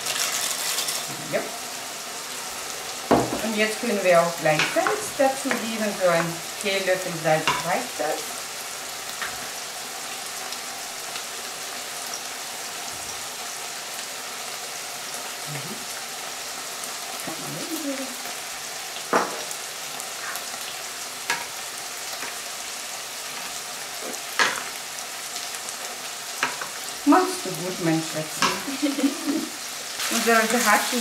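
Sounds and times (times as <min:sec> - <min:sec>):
meat sizzling in a pan: 0:00.0 - 0:31.0.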